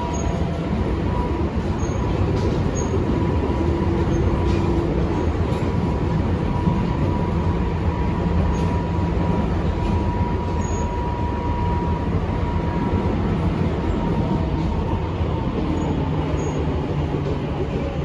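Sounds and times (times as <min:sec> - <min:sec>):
electric train rumble: 0:00.0 - 0:18.0
faint train whine: 0:00.0 - 0:18.0.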